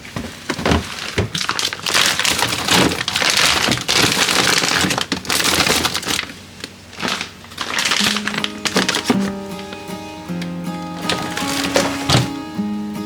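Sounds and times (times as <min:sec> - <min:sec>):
plastic food packaging crinkling: 0:00.0 - 0:12.5.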